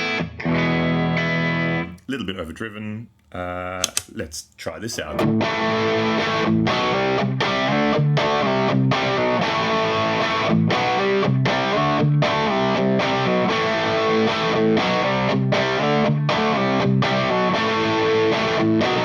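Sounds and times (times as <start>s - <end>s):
overdriven electric guitar chords: 0.0s - 1.9s, 5.2s - 19.0s.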